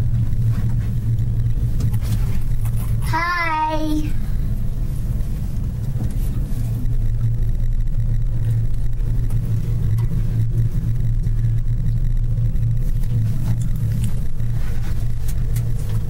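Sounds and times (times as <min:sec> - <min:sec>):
gondola cabin rumbling: 0:00.0 - 0:16.0.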